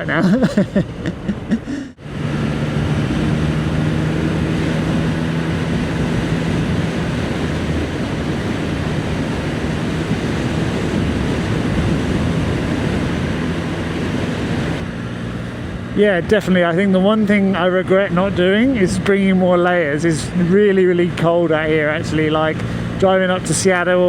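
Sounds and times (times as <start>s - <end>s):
rushing wind: 0.0s - 24.0s
motorcycle engine running: 2.0s - 23.8s.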